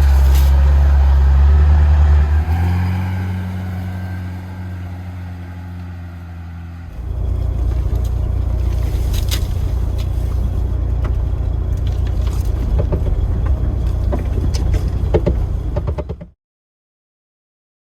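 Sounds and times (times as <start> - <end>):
car engine running hard: 0.0 - 16.2.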